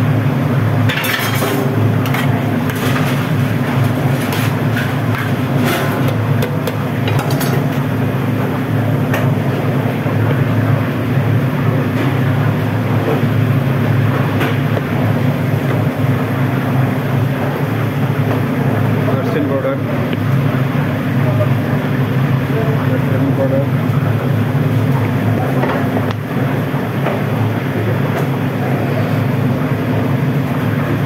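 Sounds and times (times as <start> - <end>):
ventilation fan drone: 0.0 - 31.0.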